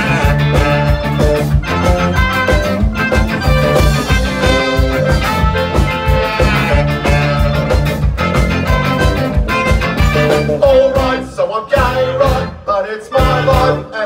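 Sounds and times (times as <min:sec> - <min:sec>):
bass guitar: 0:00.0 - 0:14.0
drums: 0:00.0 - 0:14.0
saxophone: 0:00.0 - 0:14.0
trumpet: 0:00.0 - 0:14.0.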